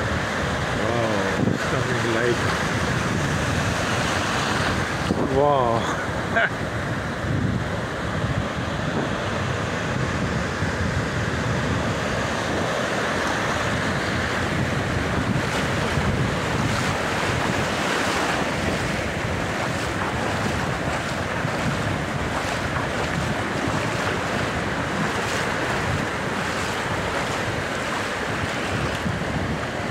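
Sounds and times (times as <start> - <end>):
surf washing in: 0.0 - 29.9
wind buffeting microphone: 0.0 - 29.9.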